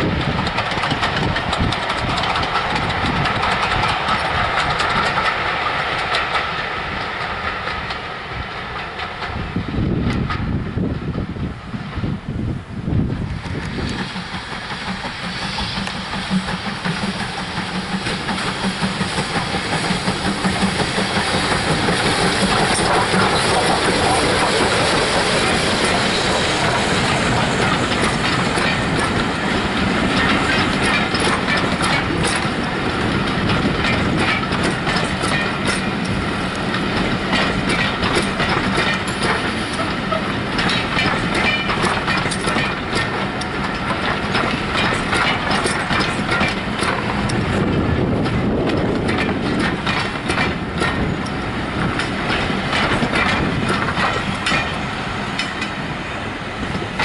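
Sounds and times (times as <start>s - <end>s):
train wheels clattering over rails: 0.0s - 12.2s, 12.9s - 57.0s.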